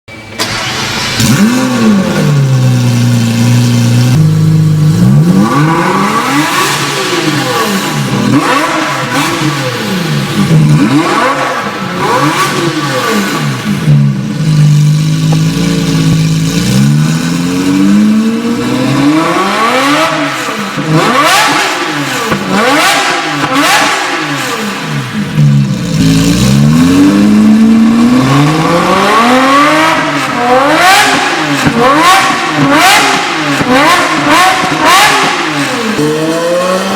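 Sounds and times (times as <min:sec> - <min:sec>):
sports car engine idling and revving: 0:00.2 - 0:36.9.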